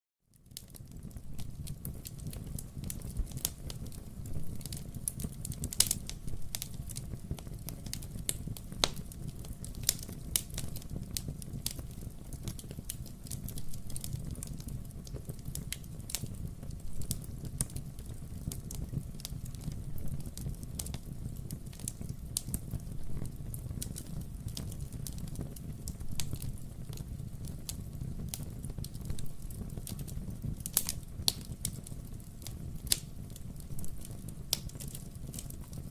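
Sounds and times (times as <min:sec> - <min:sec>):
burning logs crackling: 0:00.3 - 0:35.9
low rumble of flames: 0:00.3 - 0:35.9
sharp pops of fire: 0:00.6 - 0:35.9.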